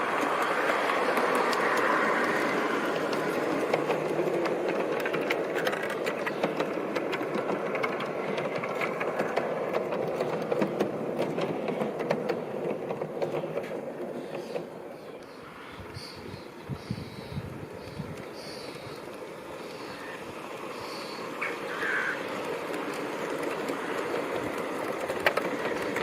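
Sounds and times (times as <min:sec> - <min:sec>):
wheels clicking over rail joints: 0:00.0 - 0:26.0.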